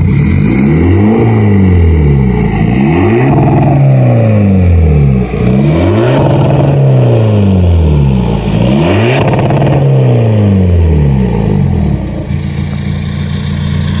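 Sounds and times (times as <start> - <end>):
diesel engine revving and idling: 0.0 - 14.0.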